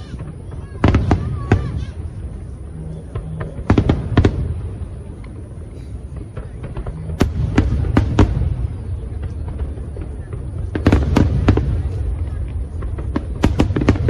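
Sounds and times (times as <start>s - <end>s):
fireworks bangs: 0.0s - 14.0s
low rumble of explosions: 0.0s - 14.0s.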